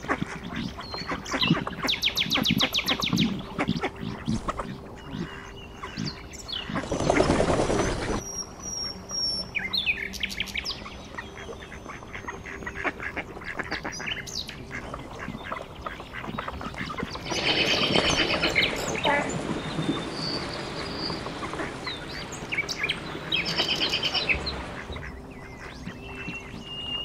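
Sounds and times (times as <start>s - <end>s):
ducks calling: 0.0s - 8.2s, 10.9s - 27.0s.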